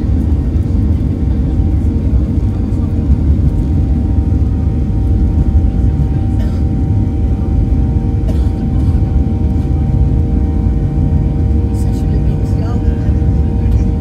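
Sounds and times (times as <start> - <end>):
airplane cabin take-off rumble: 0.0 - 14.0.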